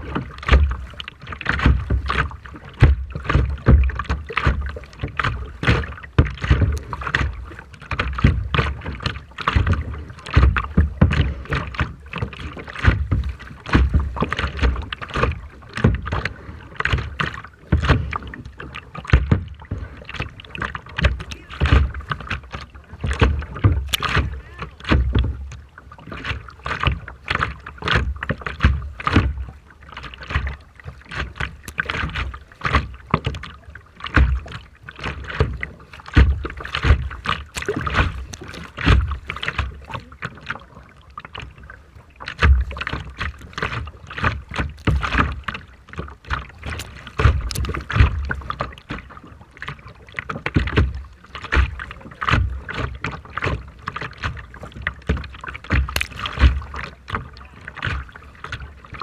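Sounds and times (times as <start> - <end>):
sea water splashing: 0.0 - 59.0.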